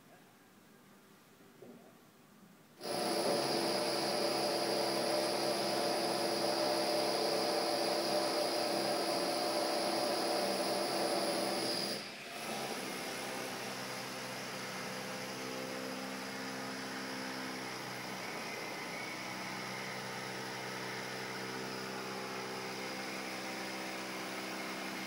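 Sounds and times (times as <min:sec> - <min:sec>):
construction machine with high whine: 0:02.8 - 0:25.0.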